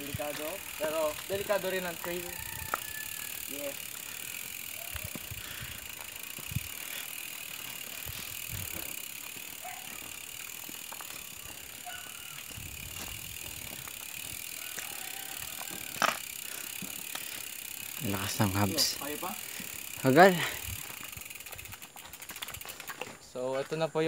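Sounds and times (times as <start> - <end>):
bicycle freehub ratcheting: 0.0 - 23.0.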